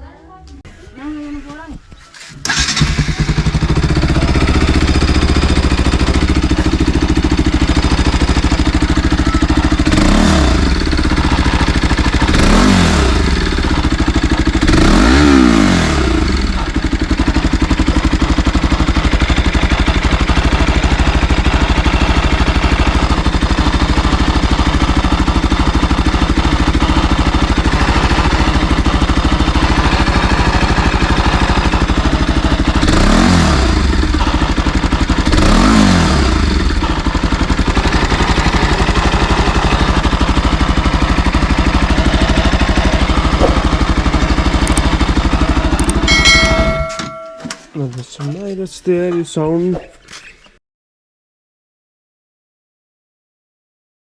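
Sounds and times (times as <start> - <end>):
motorcycle engine idling: 1.9 - 49.6.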